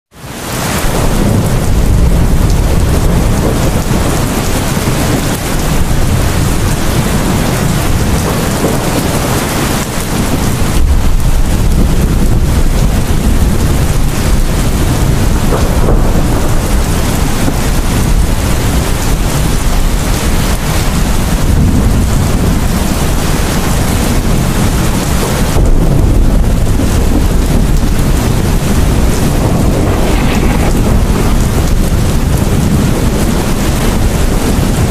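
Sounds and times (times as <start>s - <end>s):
heavy rain pouring: 0.1s - 34.9s
thunder rumbling: 0.2s - 34.9s.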